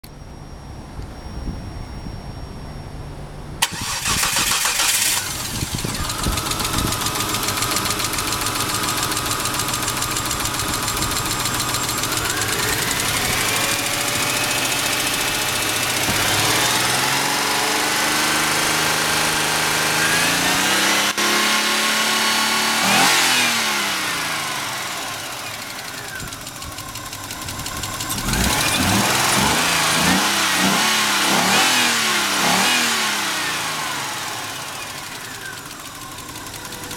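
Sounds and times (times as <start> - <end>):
car engine starting and revving: 3.6 - 36.9.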